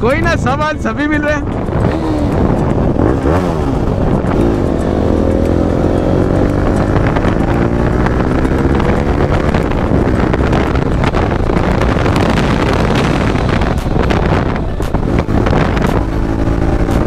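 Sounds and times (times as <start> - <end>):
motorcycle engine accelerating: 0.0 - 17.0
wind rushing over microphone: 0.0 - 17.0.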